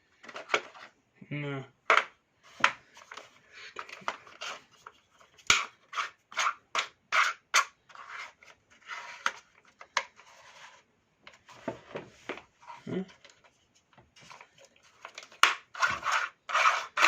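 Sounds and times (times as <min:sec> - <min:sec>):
scraping and rubbing on metal parts: 0:02.5 - 0:17.0.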